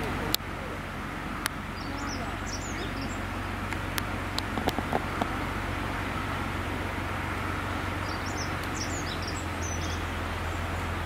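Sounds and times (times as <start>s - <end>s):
birds chirping: 0.0s - 11.0s
diesel locomotive idling: 0.0s - 11.0s.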